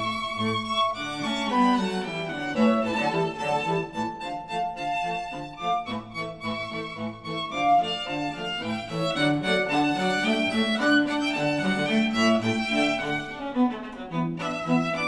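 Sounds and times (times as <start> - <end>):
instrumental music with bowed strings: 0.0 - 15.0.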